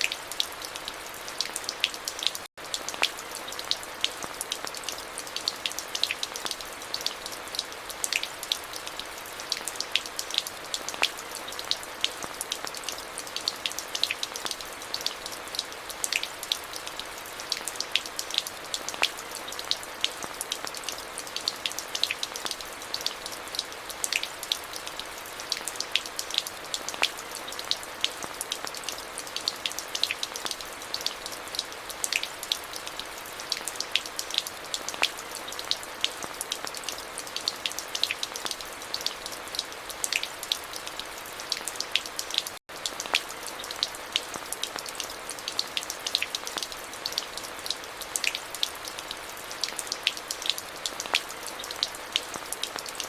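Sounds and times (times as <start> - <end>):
hiss of rainfall: 0.0 - 53.0
rain drops ticking: 0.0 - 53.0.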